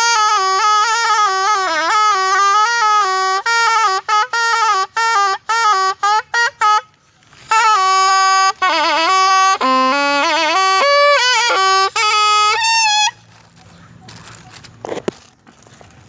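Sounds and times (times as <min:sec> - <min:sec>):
reed oboe solo melody: 0:00.0 - 0:13.5.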